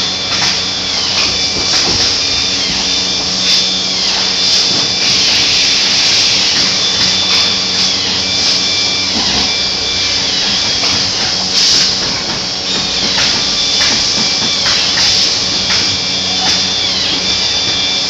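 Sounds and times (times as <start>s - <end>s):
power tool whine: 0.0s - 18.0s
steady loud hiss: 0.0s - 18.0s.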